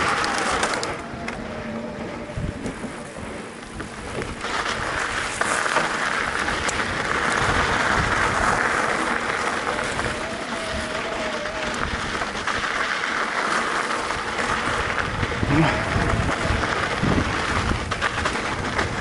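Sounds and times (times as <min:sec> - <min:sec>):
bike tyres crunching on dirt: 0:00.0 - 0:19.0.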